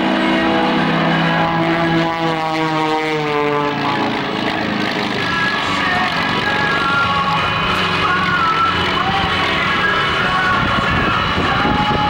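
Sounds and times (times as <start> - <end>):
propeller airplane flying past: 0.0 - 12.0.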